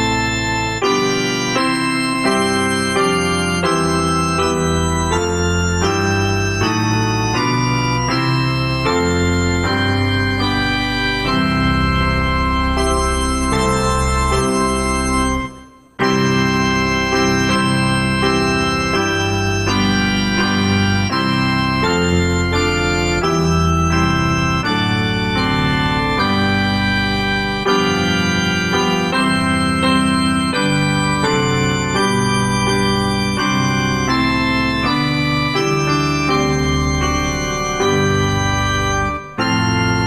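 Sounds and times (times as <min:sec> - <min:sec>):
organ chords: 0:00.0 - 0:40.0.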